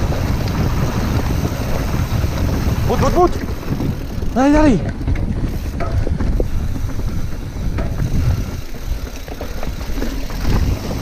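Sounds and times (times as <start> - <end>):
bike tyres rumbling on trail: 0.0 - 11.0
wheels knocking on stones: 0.0 - 11.0
wind buffeting microphone: 0.0 - 11.0.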